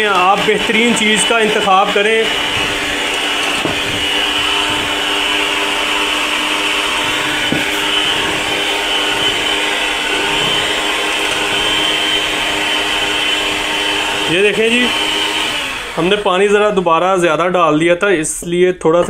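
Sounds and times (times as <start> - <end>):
electric hand mixer motor whine: 0.0 - 16.8.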